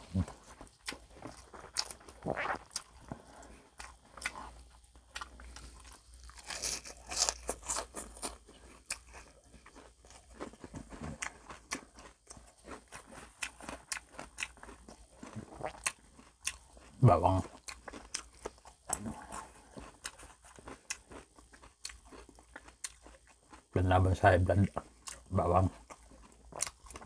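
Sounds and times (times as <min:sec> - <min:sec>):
person crunching fried food: 0:00.0 - 0:23.8, 0:24.7 - 0:27.0.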